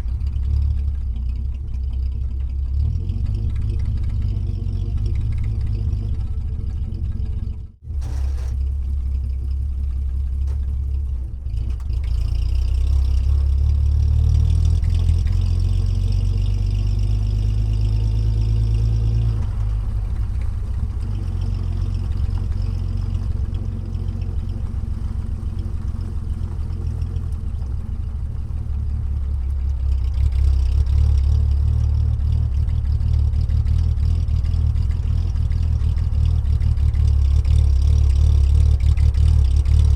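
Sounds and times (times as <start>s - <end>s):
engine running with low drone: 0.0s - 39.9s.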